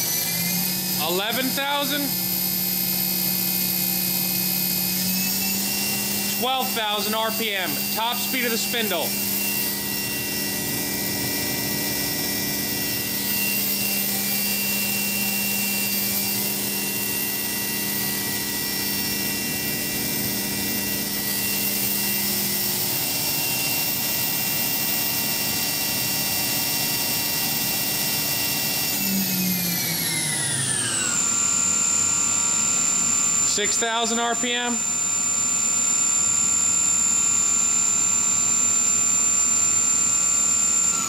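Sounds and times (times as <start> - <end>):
machine spindle whining: 0.0 - 41.0.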